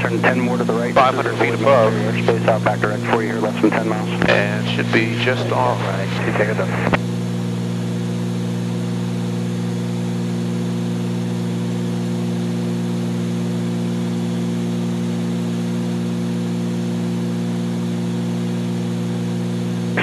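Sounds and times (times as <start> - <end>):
propeller plane engines droning: 0.0 - 20.0.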